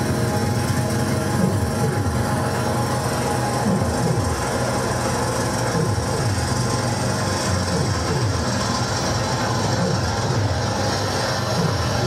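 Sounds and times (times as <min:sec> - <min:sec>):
experimental noise music: 0:00.0 - 0:12.0.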